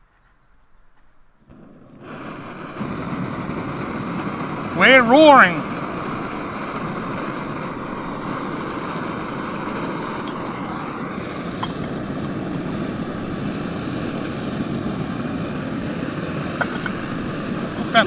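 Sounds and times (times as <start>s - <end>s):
camping stove roaring hiss: 0.1s - 18.0s.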